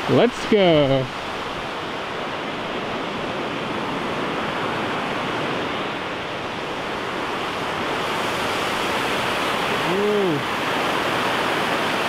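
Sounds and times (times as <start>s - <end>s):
whitewater rushing over boulders: 0.0s - 12.0s.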